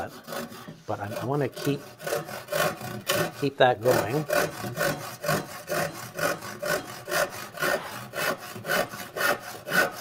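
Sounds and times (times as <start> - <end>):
handsaw cutting wooden board: 0.0 - 10.0.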